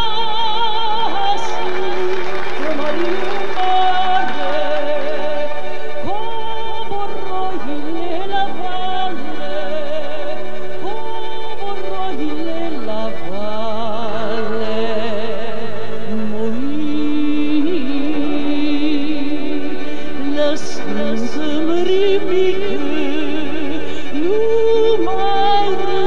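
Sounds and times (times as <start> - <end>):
instrumental ensemble: 0.0 - 26.0
woman singing with vibrato: 0.0 - 26.0.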